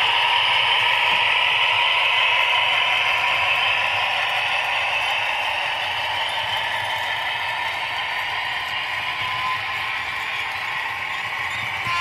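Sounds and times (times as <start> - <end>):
model train wheels rattling on rails: 0.0 - 12.0.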